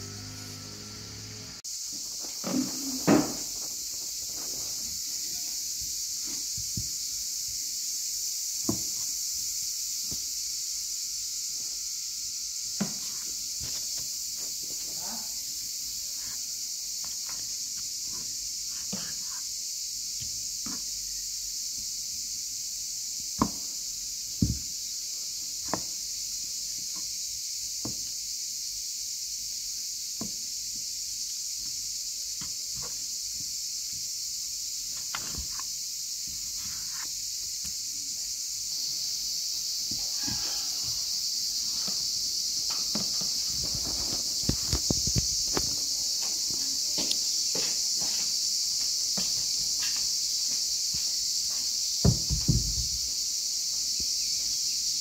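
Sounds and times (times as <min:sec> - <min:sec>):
steady high-pitched hiss: 0:00.0 - 0:55.0.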